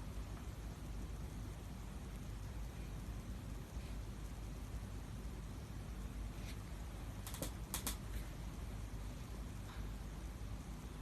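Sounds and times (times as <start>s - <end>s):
room tone hiss and hum: 0.0s - 11.0s.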